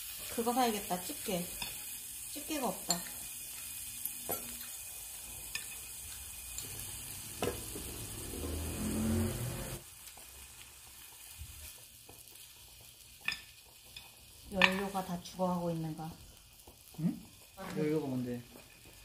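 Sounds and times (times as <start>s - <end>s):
pork sizzling on grill plate: 0.0s - 19.0s.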